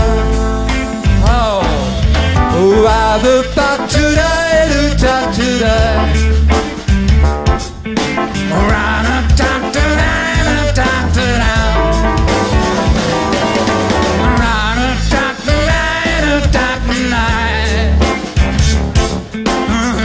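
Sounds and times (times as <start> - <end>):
bass guitar: 0.0 - 20.0
drum kit: 0.0 - 20.0
electric guitar bending lead line: 0.0 - 20.0.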